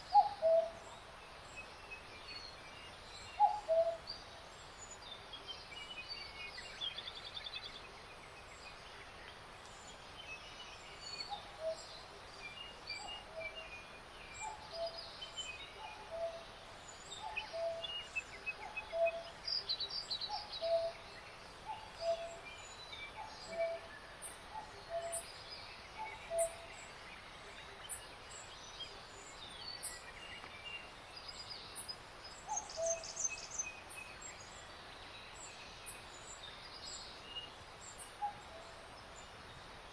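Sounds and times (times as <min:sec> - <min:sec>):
songbirds singing and chirping: 0:00.0 - 0:39.9
steady outdoor hiss: 0:00.0 - 0:39.9.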